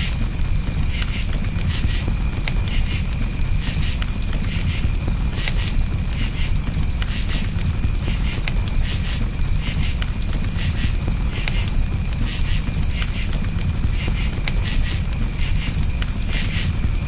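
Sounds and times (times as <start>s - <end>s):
campfire crackling and popping: 0.0s - 17.0s
crickets chirping: 0.0s - 17.0s.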